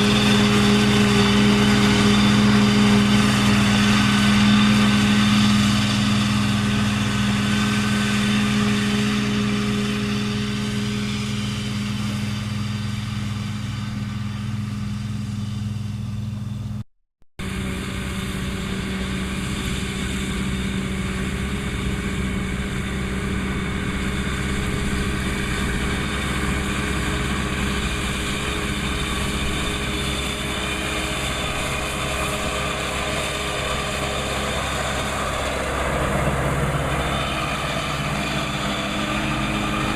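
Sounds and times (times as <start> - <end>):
disc mower cutting hay: 0.0 - 16.8, 17.4 - 39.9
tractor diesel engine running: 0.0 - 16.8, 17.4 - 39.9.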